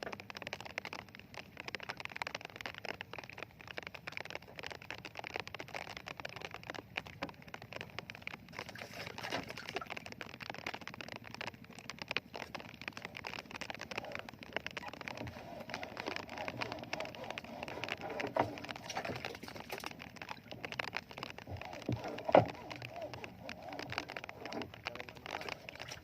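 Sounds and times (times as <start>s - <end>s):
rain falling on a boat: 0.0s - 26.0s.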